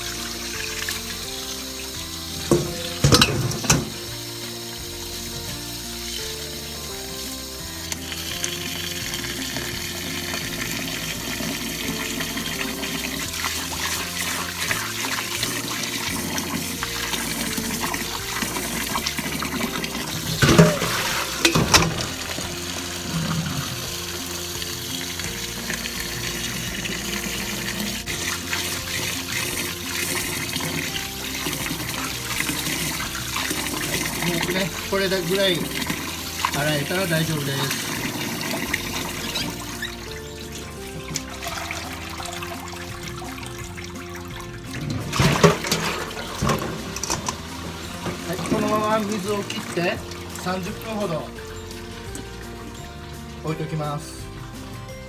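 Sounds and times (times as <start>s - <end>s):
tap water running onto rice: 0.0s - 55.0s.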